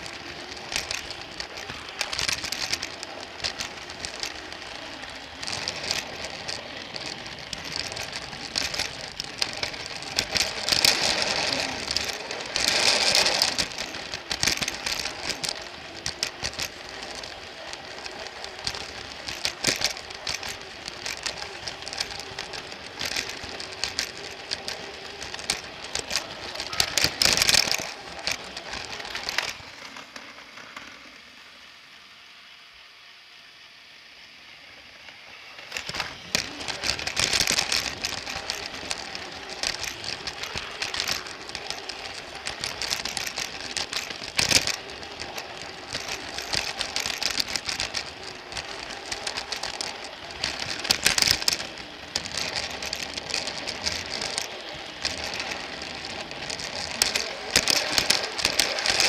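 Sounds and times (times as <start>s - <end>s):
toy train motor whirring: 0.0s - 59.0s
wheels clicking and rattling on track: 0.0s - 59.0s.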